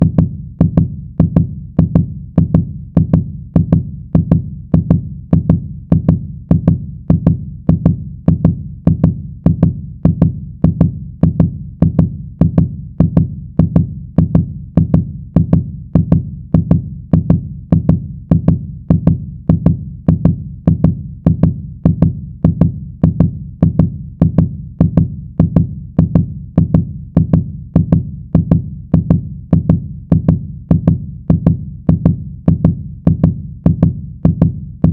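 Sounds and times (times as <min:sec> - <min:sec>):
fast heartbeat thumps: 0:00.0 - 0:34.9.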